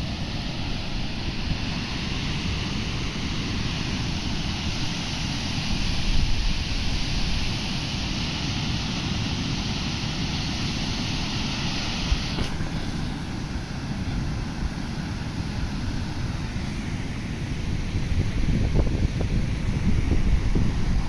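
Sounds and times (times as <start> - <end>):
wind rumbling on microphone: 0.0 - 14.8, 15.4 - 21.0
surf breaking on beach: 0.0 - 21.0.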